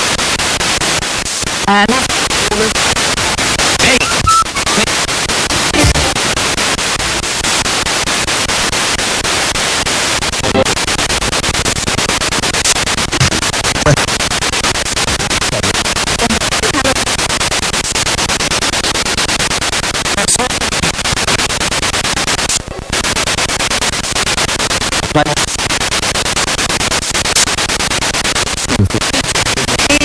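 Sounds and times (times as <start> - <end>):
pulsing radio static: 0.0 - 30.0
snatches of broadcast voices: 0.0 - 30.0.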